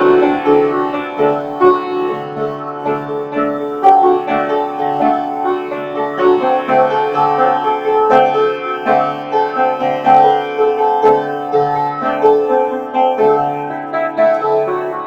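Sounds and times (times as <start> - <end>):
piano or keyboard music: 0.0 - 15.0.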